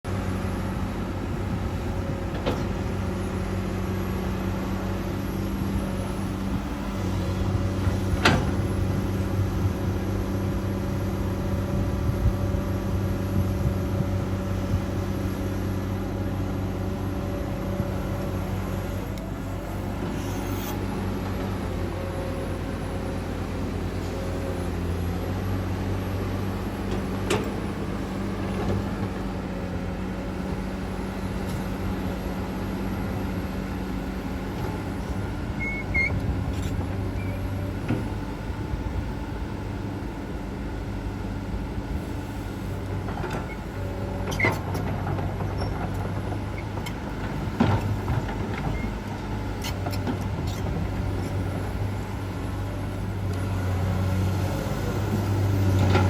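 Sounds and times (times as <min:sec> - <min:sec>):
excavator diesel engine running: 0:00.1 - 0:56.0.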